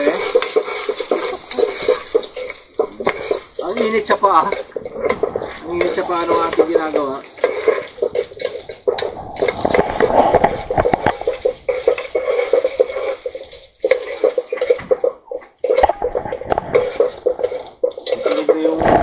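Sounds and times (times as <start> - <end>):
garlic sizzling in oil: 0.0 - 9.9, 10.8 - 16.2
metal ladle scraping pot: 0.0 - 19.0.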